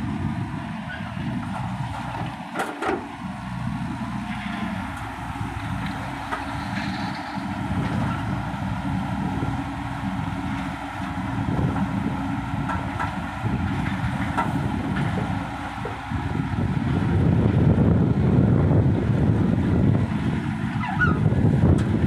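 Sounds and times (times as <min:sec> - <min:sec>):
diesel engines rumbling: 0:00.0 - 0:22.0.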